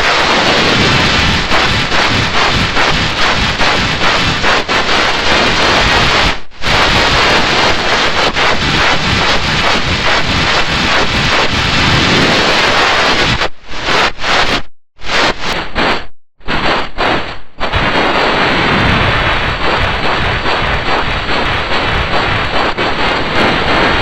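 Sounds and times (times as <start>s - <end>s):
harsh distorted noise: 0.0s - 24.0s.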